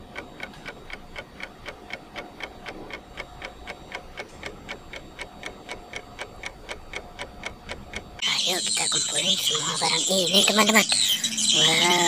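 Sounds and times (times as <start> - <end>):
fast even ticking: 0.0 - 12.0.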